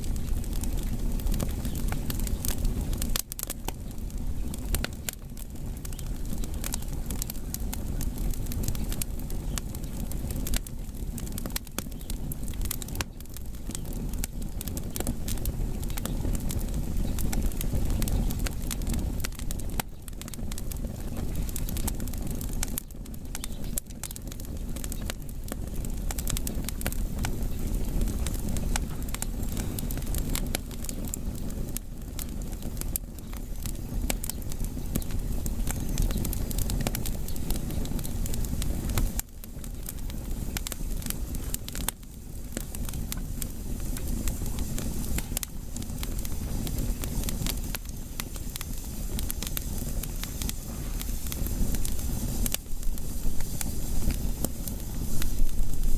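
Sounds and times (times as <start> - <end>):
firewood crackling and popping: 0.0 - 55.9
low rumble of flame: 0.0 - 55.9.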